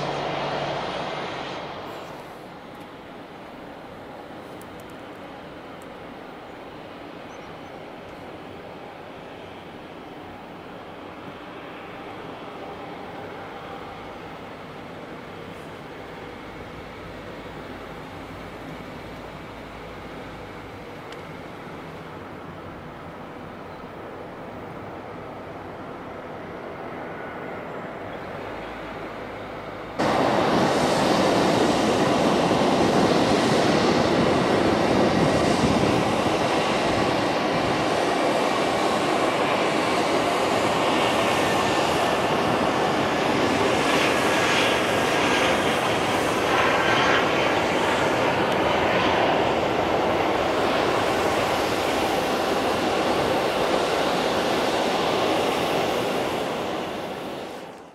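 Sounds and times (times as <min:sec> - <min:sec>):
jet engines at takeoff: 0:00.0 - 0:57.9.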